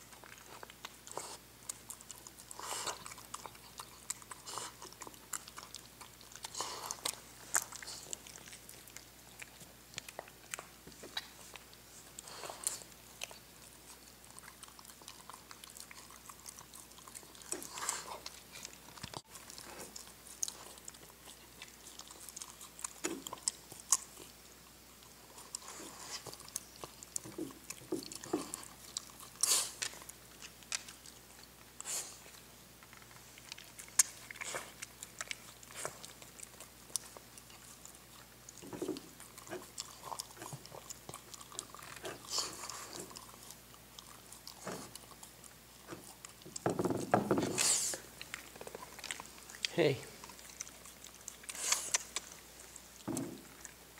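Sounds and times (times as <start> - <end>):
dog chewing and licking: 0.0 - 53.9.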